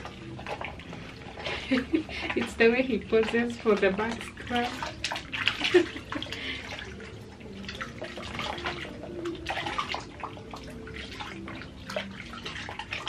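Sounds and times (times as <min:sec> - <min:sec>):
bath water splashing: 0:00.0 - 0:13.0.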